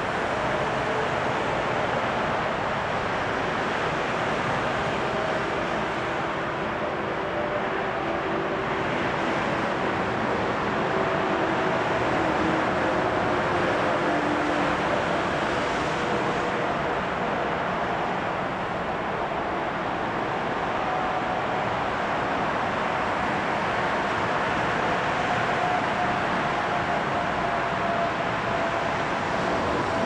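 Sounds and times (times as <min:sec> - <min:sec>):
jet engines roaring: 0:03.9 - 0:17.2, 0:19.2 - 0:30.0.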